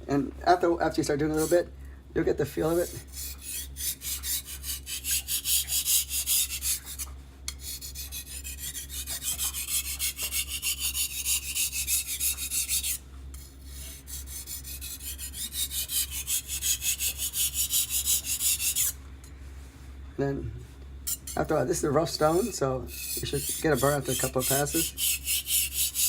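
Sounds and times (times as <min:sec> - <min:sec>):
knife rasping on whetstone: 0:01.3 - 0:01.6, 0:02.6 - 0:19.0, 0:21.1 - 0:26.0.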